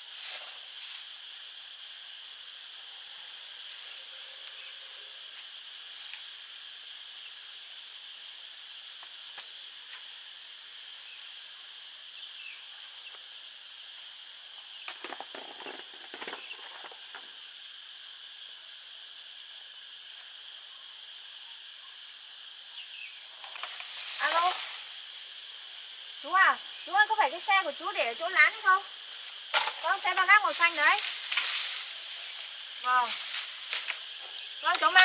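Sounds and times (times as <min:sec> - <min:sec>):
high-pitched insect chorus: 0:00.0 - 0:35.0.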